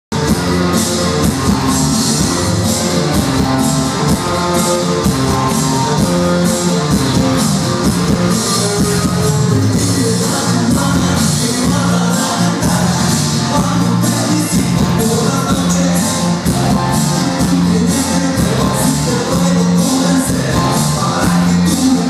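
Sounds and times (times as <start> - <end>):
loud dance music: 0.1 - 22.0.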